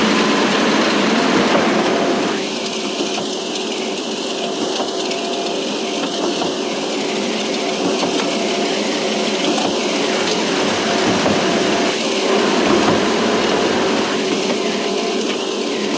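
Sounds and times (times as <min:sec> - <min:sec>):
construction machinery running: 0:00.0 - 0:15.9
rattling mechanical noise: 0:00.0 - 0:15.9.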